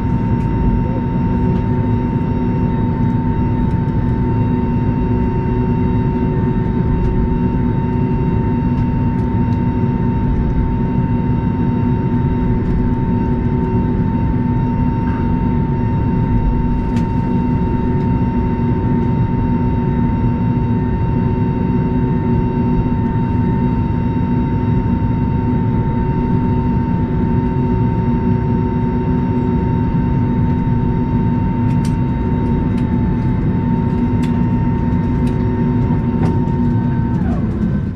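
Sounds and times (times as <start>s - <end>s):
aircraft cabin rumble: 0.0s - 37.9s
constant high whine: 0.0s - 37.9s.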